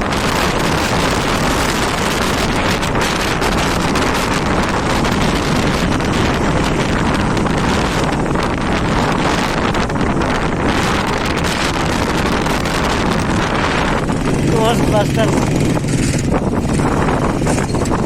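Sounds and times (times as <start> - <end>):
storm wind on microphone: 0.0 - 18.0.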